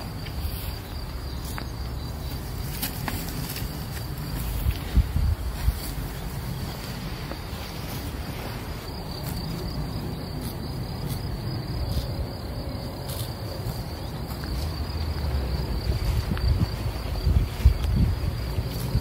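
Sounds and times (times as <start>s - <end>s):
high-pitched insect trill: 0.0s - 19.0s
horses cropping grass: 0.0s - 19.0s.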